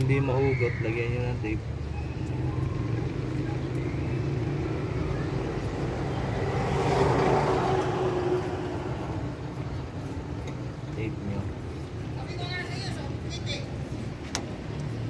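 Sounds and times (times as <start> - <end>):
motor vehicle passing by: 1.0 - 15.0.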